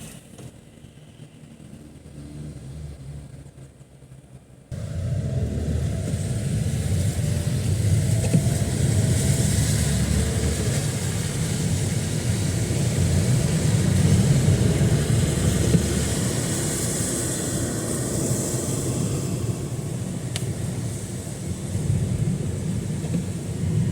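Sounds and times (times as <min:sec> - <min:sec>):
tyres hissing on wet road: 0:00.0 - 0:03.5, 0:04.7 - 0:23.9
traffic engine rumble: 0:00.0 - 0:23.9.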